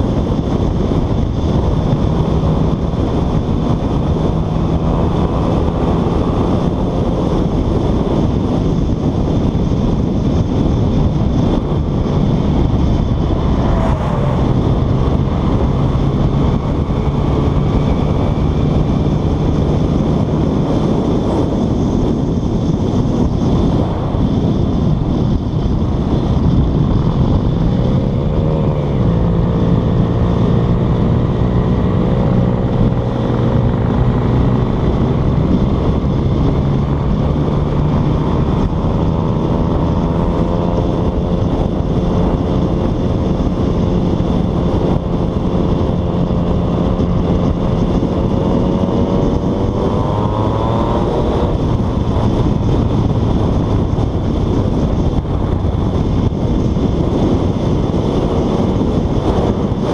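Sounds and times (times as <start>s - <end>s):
motorcycle engine at speed: 0.0s - 59.9s
wind rush on microphone: 0.0s - 59.9s.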